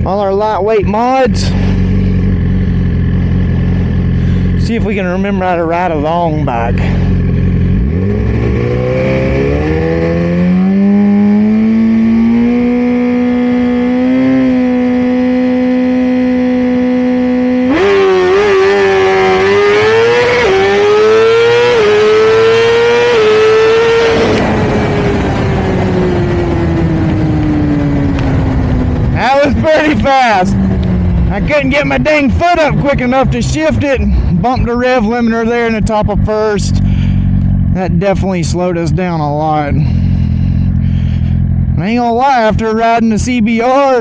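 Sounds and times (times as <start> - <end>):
motorcycle engine at full throttle: 0.0 - 44.0.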